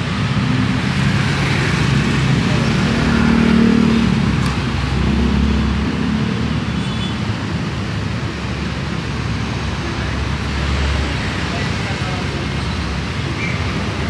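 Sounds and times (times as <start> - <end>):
motorcycles and cars passing: 0.0 - 14.0.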